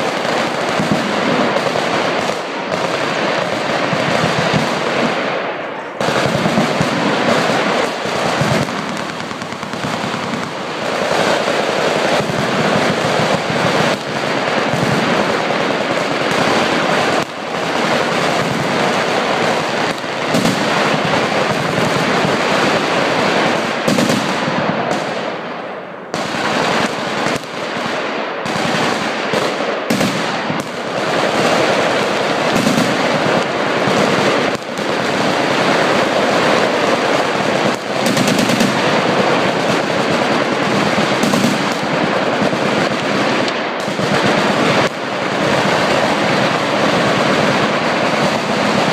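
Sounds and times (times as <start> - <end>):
machine guns firing bursts: 0.0 - 25.4, 26.1 - 48.9.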